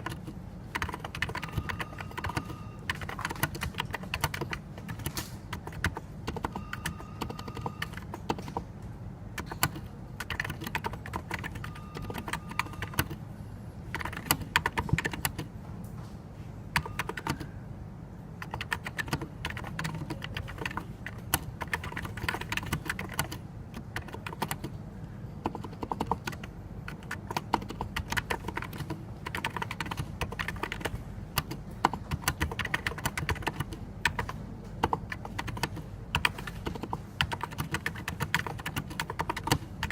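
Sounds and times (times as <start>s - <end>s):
fast keyboard typing: 0.0s - 15.6s, 16.7s - 17.6s, 18.2s - 24.8s, 25.4s - 39.9s.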